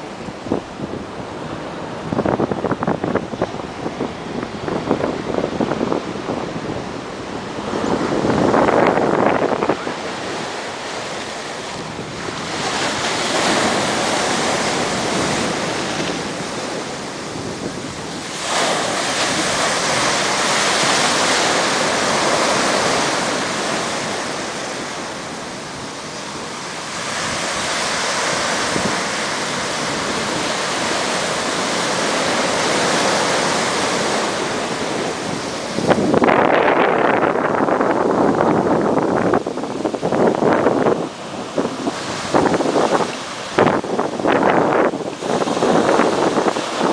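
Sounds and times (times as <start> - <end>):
ocean surf breaking: 0.0 - 46.9.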